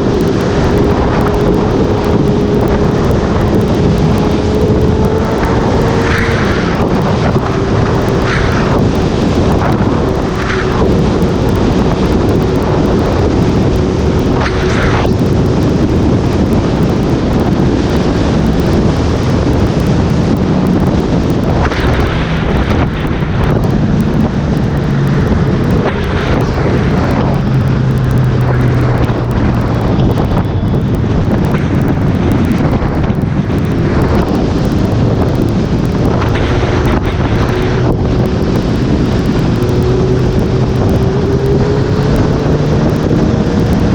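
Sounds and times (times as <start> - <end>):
motorcycle engine drone: 0.0 - 43.9
wind buffeting microphone: 0.0 - 43.9.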